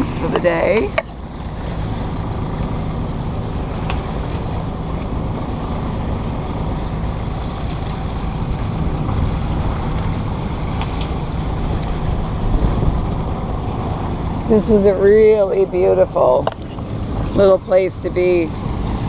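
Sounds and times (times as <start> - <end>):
boat engine hum: 0.0 - 19.0
water rushing along hull: 0.0 - 19.0
wind buffeting microphone: 0.0 - 19.0.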